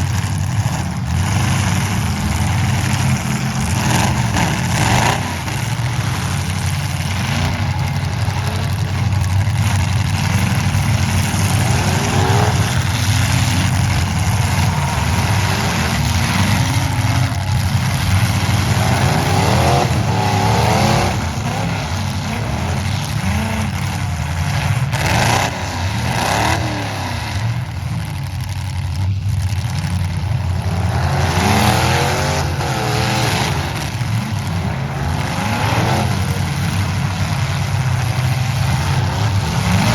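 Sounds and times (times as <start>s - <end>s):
engines revving: 0.0s - 39.9s
truck engines rumbling: 0.0s - 39.9s.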